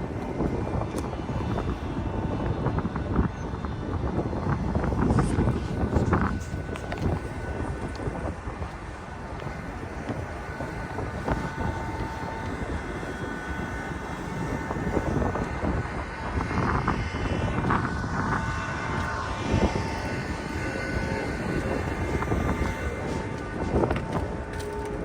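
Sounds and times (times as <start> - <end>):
faint steady tones: 0.0 - 25.0
wind buffeting microphone: 0.0 - 25.0.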